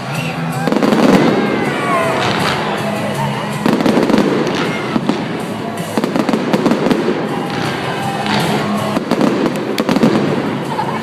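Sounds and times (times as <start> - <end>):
fireworks bangs and crackling: 0.0 - 11.0
pop music over loudspeakers: 0.0 - 11.0.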